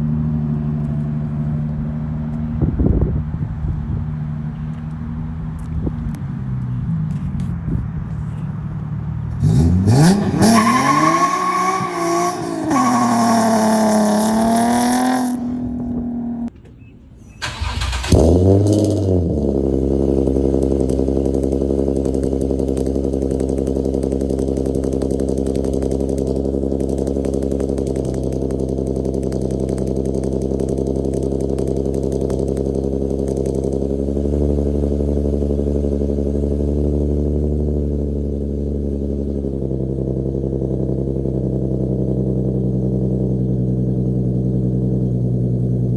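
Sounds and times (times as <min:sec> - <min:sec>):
car engine idling: 0:00.0 - 0:09.4, 0:17.4 - 0:45.9
car engine revving: 0:00.0 - 0:16.5, 0:17.4 - 0:45.9.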